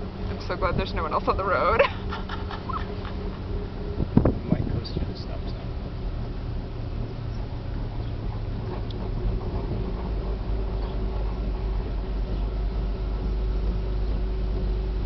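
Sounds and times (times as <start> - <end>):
faint steady hum: 0.0 - 15.0
road and tyre rumble: 0.0 - 15.0.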